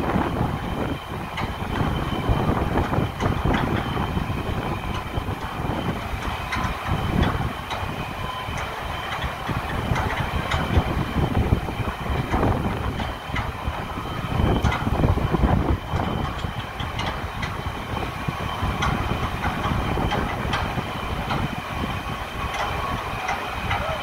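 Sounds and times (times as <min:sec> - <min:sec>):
gusty low rumbling: 0:00.0 - 0:24.0.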